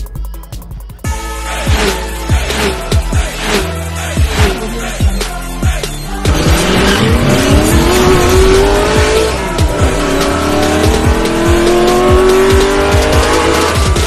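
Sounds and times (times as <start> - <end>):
electronic music with beat: 0.0 - 14.0
racing car engine revving: 1.6 - 5.2, 5.8 - 14.0.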